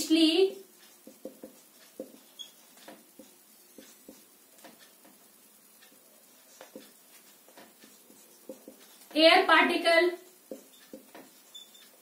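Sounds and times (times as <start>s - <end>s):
marker writing on whiteboard: 0.0s - 9.4s, 10.1s - 12.0s.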